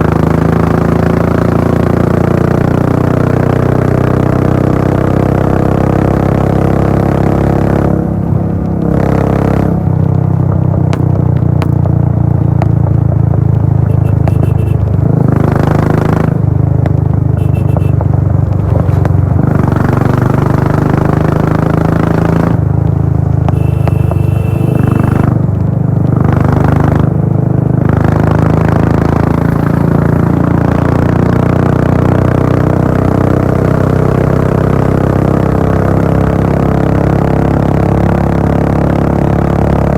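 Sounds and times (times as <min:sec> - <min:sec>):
motorcycle engine exhaust note: 0:00.0 - 0:34.8.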